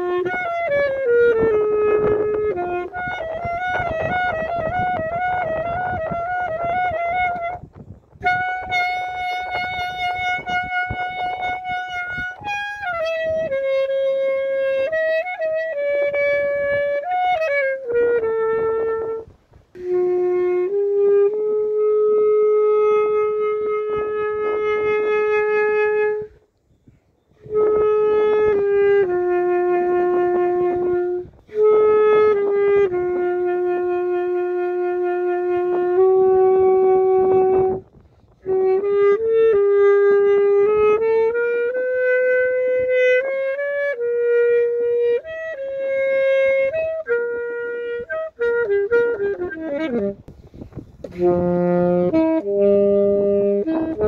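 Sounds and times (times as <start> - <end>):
saxophone slow melody: 0.0 - 54.0.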